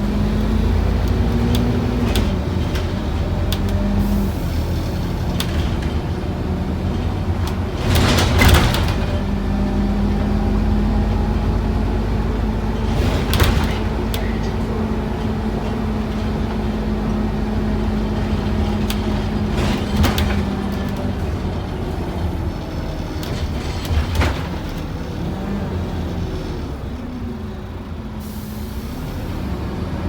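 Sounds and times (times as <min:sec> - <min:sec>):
bus diesel engine drone: 0:00.0 - 0:30.0.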